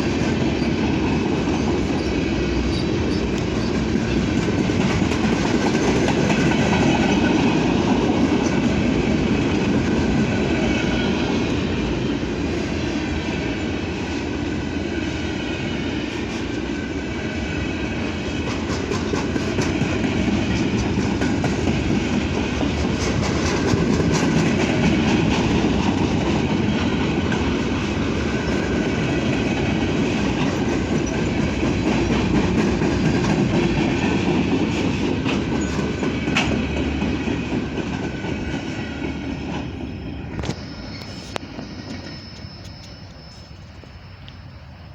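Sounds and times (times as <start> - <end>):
wheels clicking over rail joints: 0.0 - 10.8, 17.9 - 44.4
freight train cars rumbling: 0.0 - 44.9.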